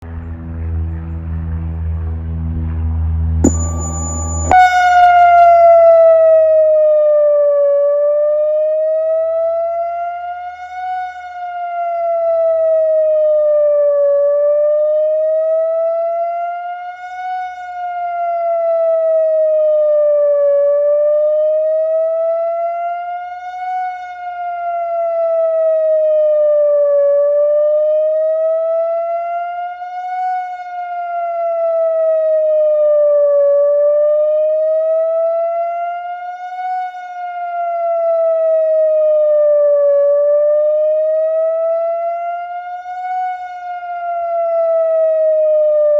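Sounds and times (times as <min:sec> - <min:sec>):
electronic siren wailing: 0:03.4 - 0:45.9.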